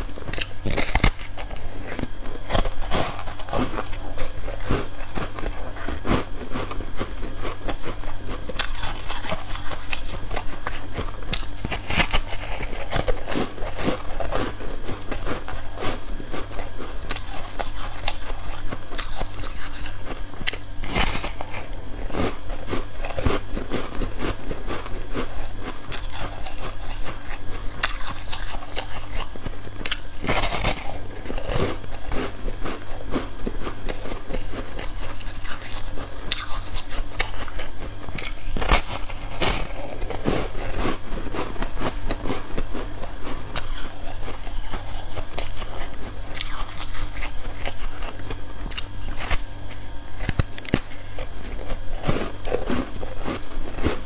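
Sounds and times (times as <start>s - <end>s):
crunchy ice chewing: 0.0s - 54.0s.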